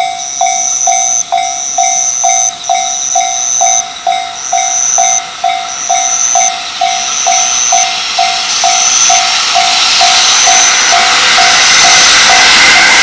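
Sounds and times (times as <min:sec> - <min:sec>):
level crossing bell ringing: 0:00.0 - 0:12.5
higher-pitched pulsing chime: 0:00.0 - 0:13.0.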